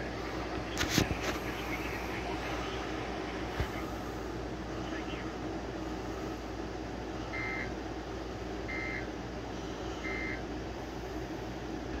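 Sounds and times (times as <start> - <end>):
steady hiss and hum: 0.0 - 12.0.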